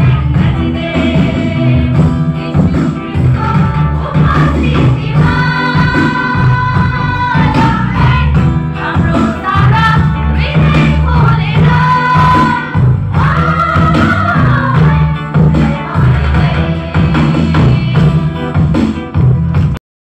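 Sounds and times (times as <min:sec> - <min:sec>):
women's choir singing gospel: 0:00.0 - 0:18.5
amplified accompaniment with heavy bass: 0:00.0 - 0:19.8.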